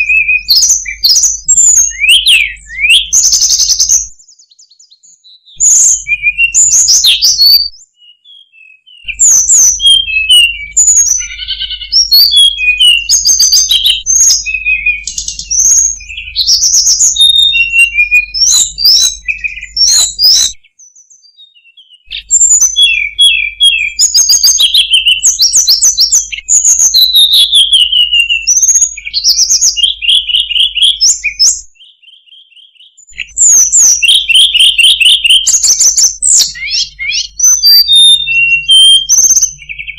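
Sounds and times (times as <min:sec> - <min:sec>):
bird song chirps and trills: 0:00.0 - 0:39.9.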